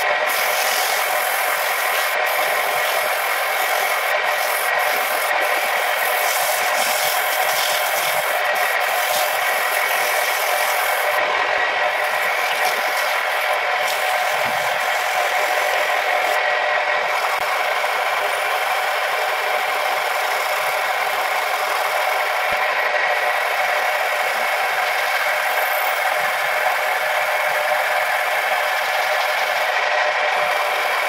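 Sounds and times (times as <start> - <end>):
tool rubbing spinning wood: 0.0 - 31.0
wood lathe whine: 0.0 - 31.0.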